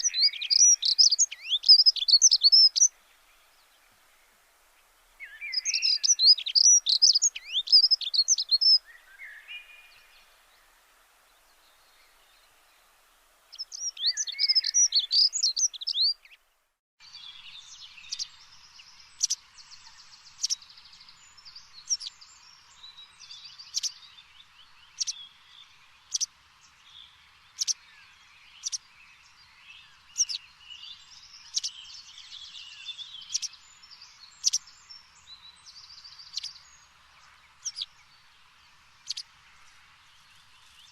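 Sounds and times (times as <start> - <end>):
songbirds singing high chirps: 0.0 - 40.9.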